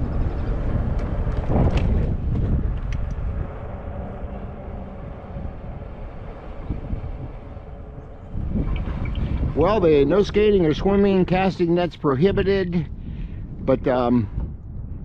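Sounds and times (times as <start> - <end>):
bike tire rolling noise: 0.0 - 15.0
wind buffeting microphone: 0.0 - 15.0.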